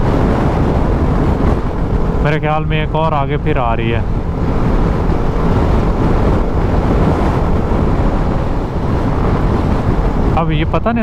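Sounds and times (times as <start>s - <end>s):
motorcycle engine and road noise: 0.0s - 11.0s
wind rushing over microphone: 0.0s - 11.0s.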